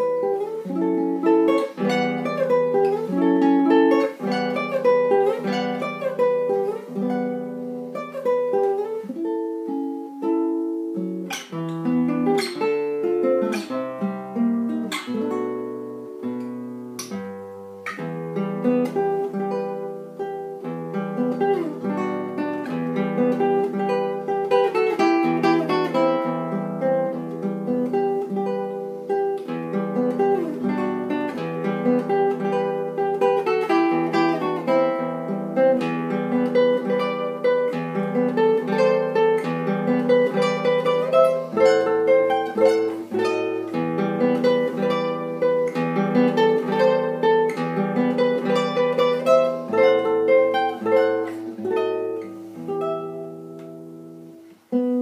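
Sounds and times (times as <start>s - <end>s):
classical guitar playing: 0.0s - 55.0s.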